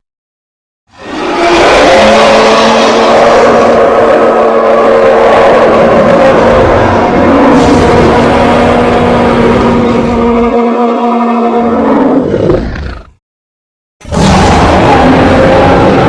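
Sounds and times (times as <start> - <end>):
cartoon dinosaur roar: 0.9 - 13.2, 14.0 - 16.0
loud abrupt sound: 1.0 - 11.9, 14.0 - 16.0.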